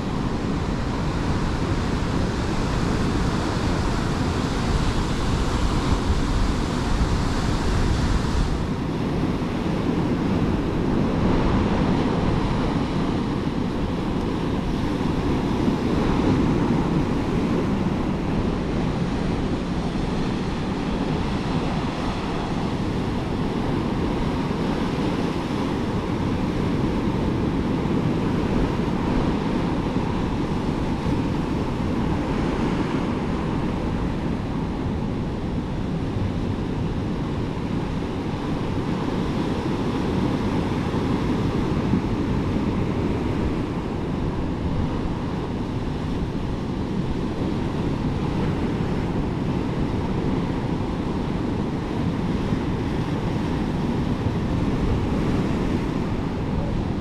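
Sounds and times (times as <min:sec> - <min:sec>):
ocean surf washing on beach: 0:00.0 - 0:57.0
wind buffeting microphone: 0:00.0 - 0:57.0.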